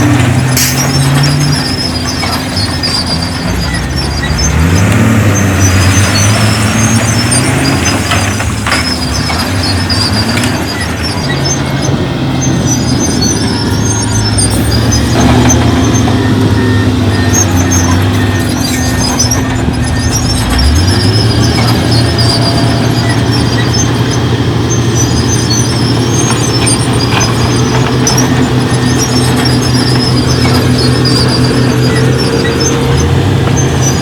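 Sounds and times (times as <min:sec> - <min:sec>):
diesel engine under load: 0:00.0 - 0:34.0
high-pitched squeaks: 0:00.0 - 0:34.0.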